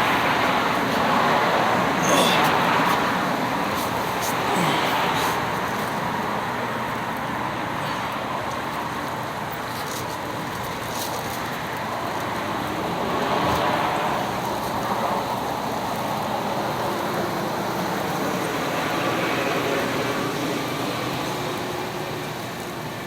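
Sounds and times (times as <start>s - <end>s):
background traffic noise: 0.0s - 23.0s.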